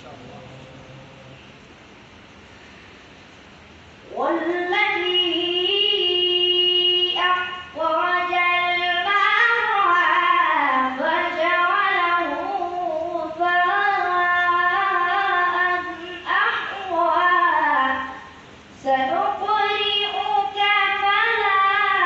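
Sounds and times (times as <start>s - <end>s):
boy chanting recitation: 4.0s - 22.0s.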